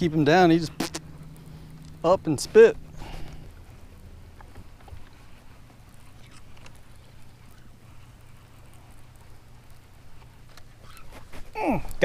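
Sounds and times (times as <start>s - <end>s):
electric trolling motor humming: 0.0s - 11.1s
faint small ticks and clicks: 0.0s - 12.0s.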